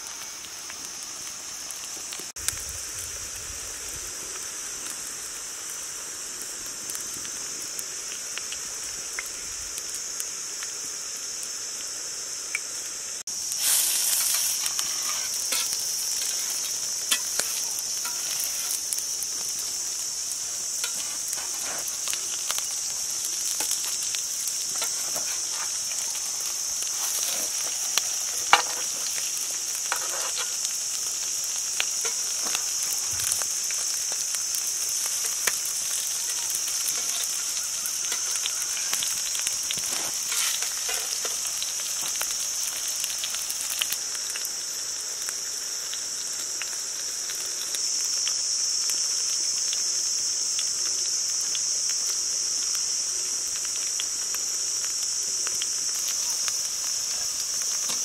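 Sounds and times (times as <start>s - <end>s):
food sizzling in oil: 0.0s - 58.0s
oil crackling and popping: 0.0s - 58.0s.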